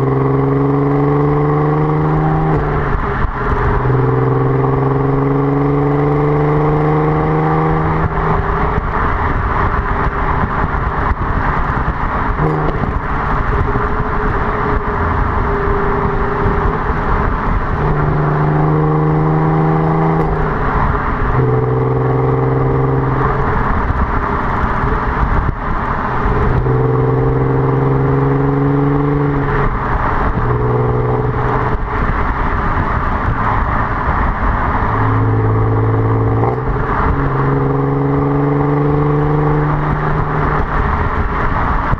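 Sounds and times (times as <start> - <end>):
car exhaust drone: 0.0 - 41.9
constant rush of noise: 0.0 - 41.9.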